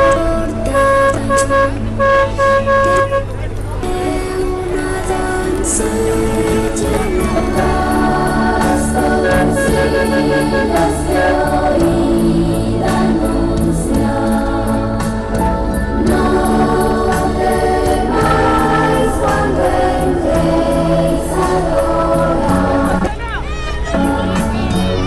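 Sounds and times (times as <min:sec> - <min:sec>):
choir singing held chords: 0:00.0 - 0:23.2, 0:23.8 - 0:25.0.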